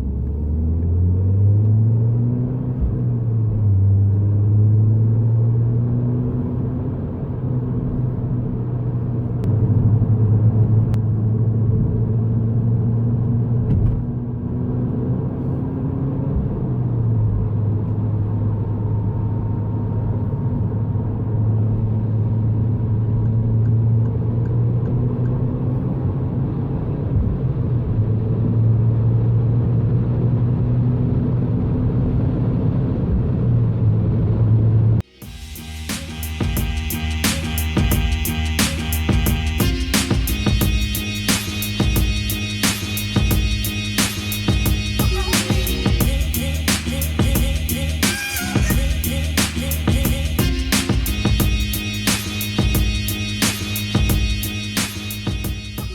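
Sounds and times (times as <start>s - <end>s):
car engine droning: 0.0s - 55.9s
road noise: 0.0s - 55.9s.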